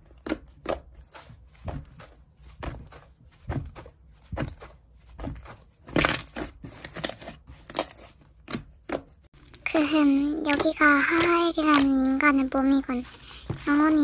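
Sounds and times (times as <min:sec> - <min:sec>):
hands squishing slime: 0:00.0 - 0:14.0.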